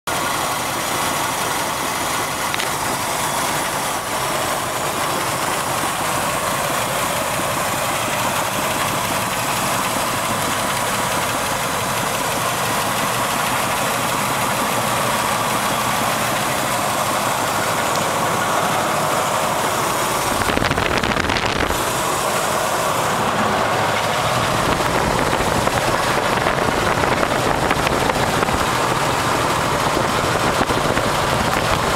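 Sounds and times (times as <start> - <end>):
engine idling with knocking: 0.0 - 31.9.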